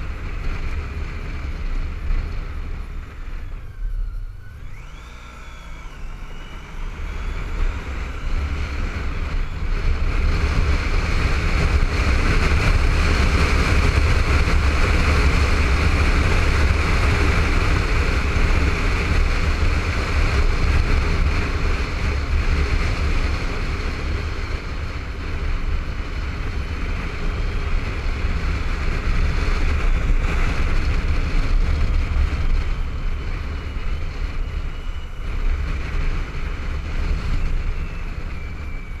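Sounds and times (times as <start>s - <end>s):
motorcycle engine: 0.0s - 39.0s
wind rushing over camera: 0.0s - 39.0s.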